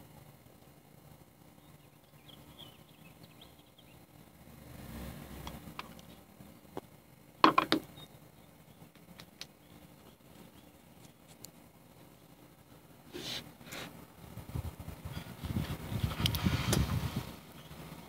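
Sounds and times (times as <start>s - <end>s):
faint background sound: 0.0s - 18.0s.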